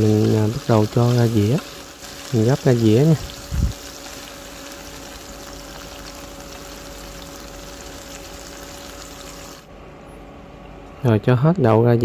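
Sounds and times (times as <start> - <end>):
beans sizzling in a frying pan: 0.0 - 9.7.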